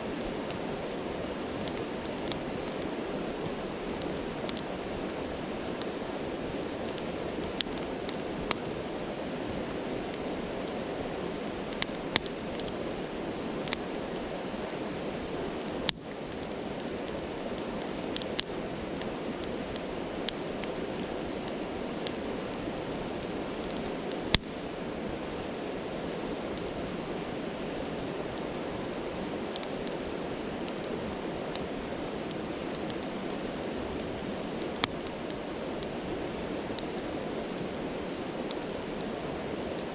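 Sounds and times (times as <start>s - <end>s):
campfire crackling: 0.0s - 39.9s
stream rushing: 0.0s - 39.9s.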